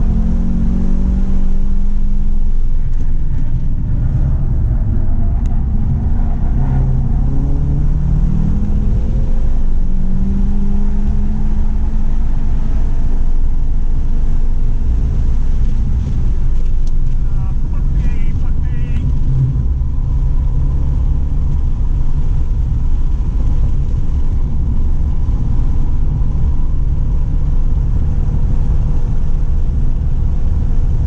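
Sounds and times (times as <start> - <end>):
car engine accelerating: 0.0 - 31.0
road and wind noise: 0.0 - 31.0.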